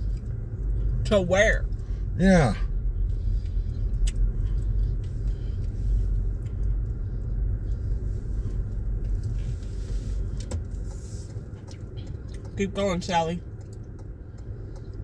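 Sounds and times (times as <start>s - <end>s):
car interior driving rumble: 0.0s - 15.0s.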